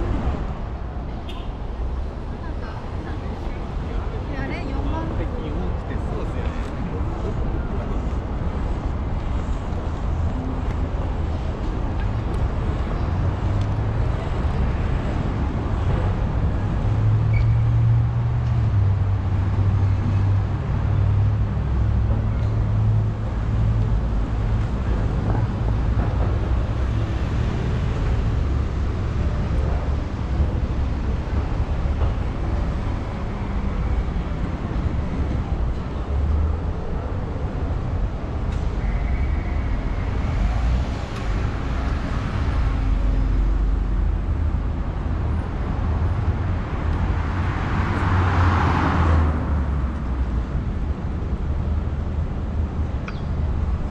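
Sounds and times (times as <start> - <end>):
road traffic noise: 0.0 - 53.9.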